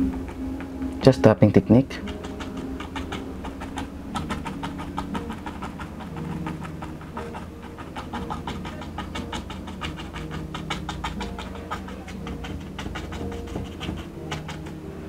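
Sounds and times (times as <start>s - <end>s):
paintbrush tapping on canvas: 2.0s - 14.8s.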